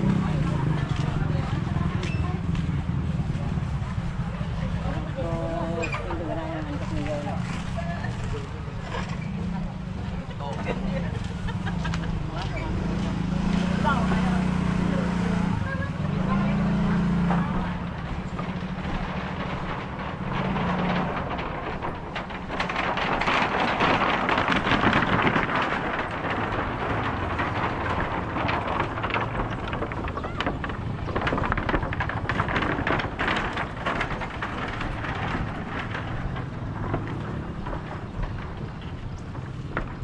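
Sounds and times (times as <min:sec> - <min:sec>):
vehicle engine hum: 0:00.0 - 0:40.0
vehicle passing with clatter: 0:00.0 - 0:40.0.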